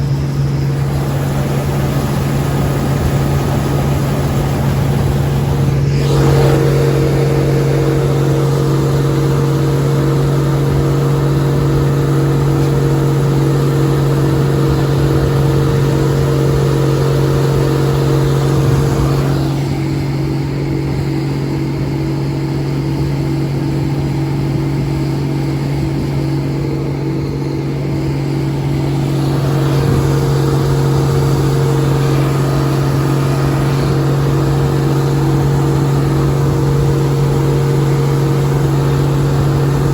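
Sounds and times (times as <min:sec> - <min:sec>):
combine harvester drone: 0:00.0 - 0:39.9
higher steady machine tone: 0:00.0 - 0:39.9.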